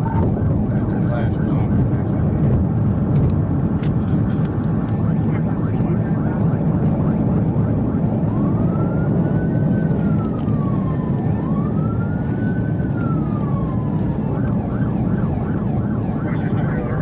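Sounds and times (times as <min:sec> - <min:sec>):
engine and road noise: 0:00.0 - 0:17.0
police siren wailing: 0:00.0 - 0:17.0.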